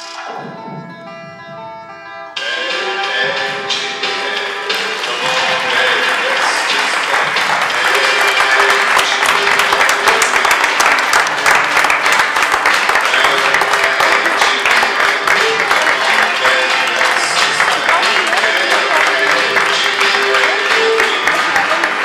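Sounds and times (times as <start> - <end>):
audience applauding: 0.0 - 22.0
music playing: 0.0 - 22.0.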